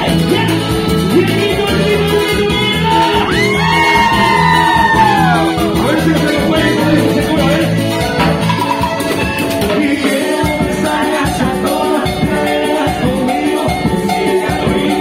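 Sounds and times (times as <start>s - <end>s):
live band playing: 0.0s - 15.0s
man singing into a microphone: 0.0s - 15.0s.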